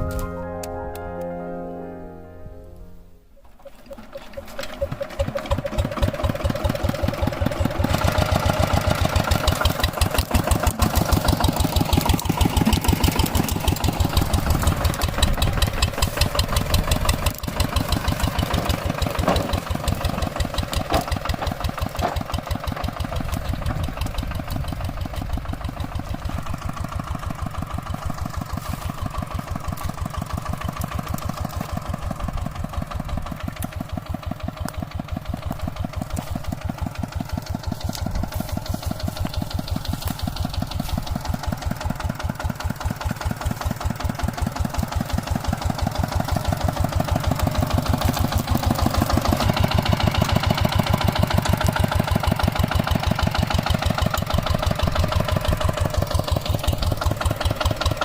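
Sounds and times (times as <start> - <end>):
diesel engine chugging: 3.3 - 58.0.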